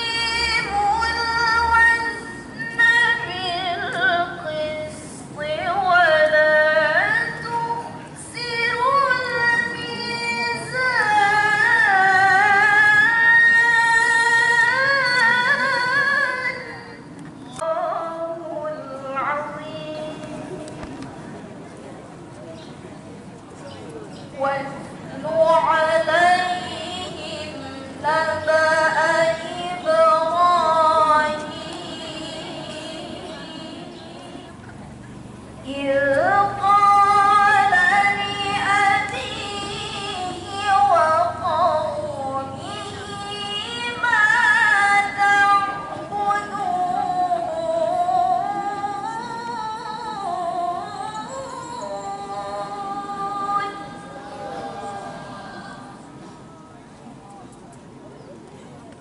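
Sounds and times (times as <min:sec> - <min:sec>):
woman chanting recitation: 0:00.0 - 0:21.0, 0:24.3 - 0:34.6, 0:35.6 - 0:56.5.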